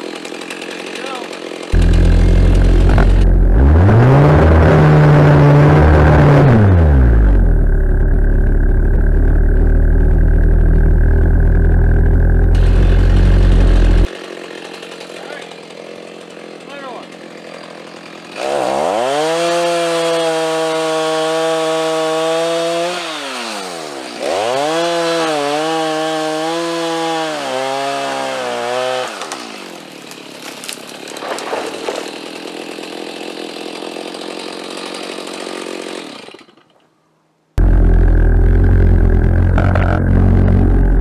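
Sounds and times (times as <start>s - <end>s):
chainsaw revving and idling: 0.0s - 36.8s, 37.6s - 41.0s.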